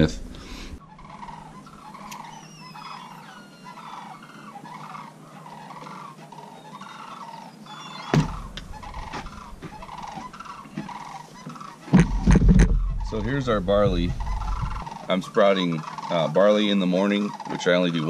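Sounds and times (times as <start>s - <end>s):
chickens calling: 0.0s - 18.0s
small birds chirping: 0.0s - 18.0s.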